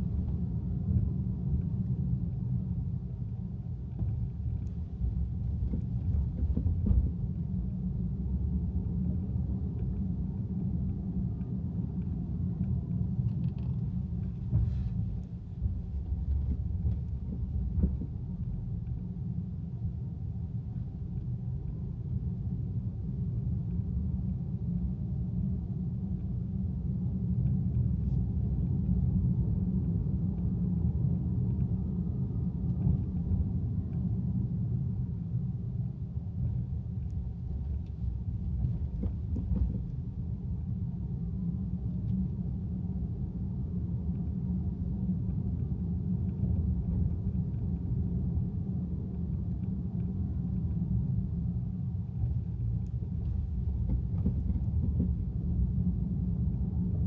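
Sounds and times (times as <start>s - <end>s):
car driving low rumble: 0.0s - 57.0s.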